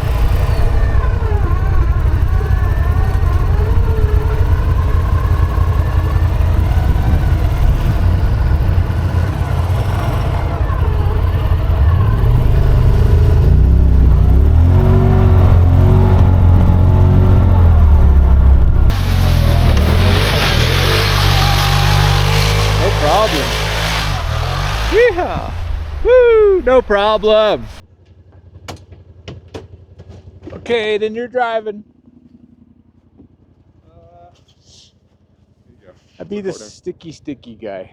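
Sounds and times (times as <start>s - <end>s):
utility vehicle engine revving: 0.0s - 30.7s.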